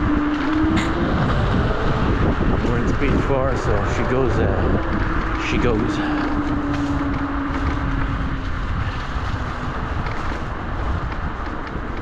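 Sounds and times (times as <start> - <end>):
electric motor whine: 0.0 - 11.2
tyres rumbling: 0.0 - 12.0
wind noise on microphone: 0.0 - 12.0.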